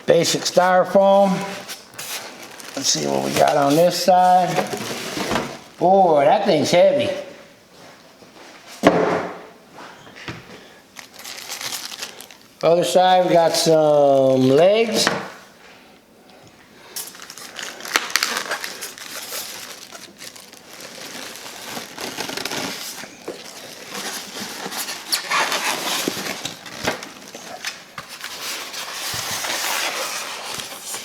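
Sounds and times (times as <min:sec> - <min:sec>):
plastic and styrofoam crinkling: 0:00.0 - 0:06.4, 0:10.9 - 0:15.4, 0:16.9 - 0:31.0.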